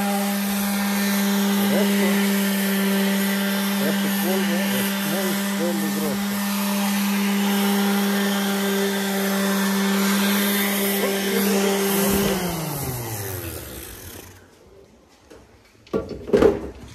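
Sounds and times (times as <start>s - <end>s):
orbital sander running: 0.0s - 14.6s
sander spinning down: 0.0s - 14.7s.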